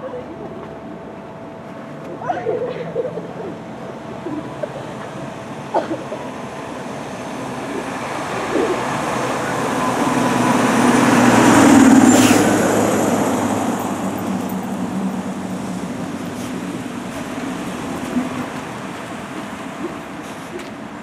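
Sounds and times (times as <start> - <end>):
fire engine diesel engine: 0.0 - 21.0
tyres on road: 0.0 - 21.0.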